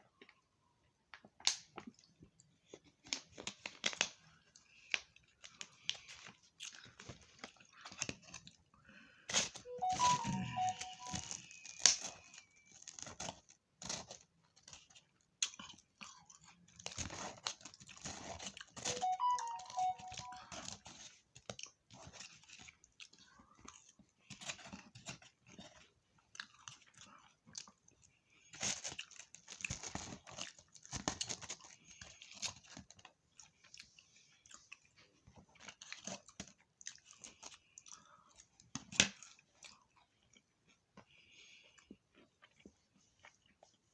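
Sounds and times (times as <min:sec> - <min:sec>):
chewing and crunching food: 0:00.0 - 0:09.6, 0:11.2 - 0:18.9, 0:20.8 - 0:43.9.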